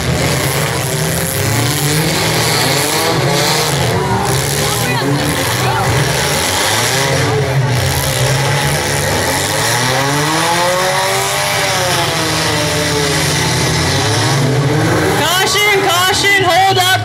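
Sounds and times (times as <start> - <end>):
car engines running: 0.0 - 17.0
engine revving: 0.0 - 17.0.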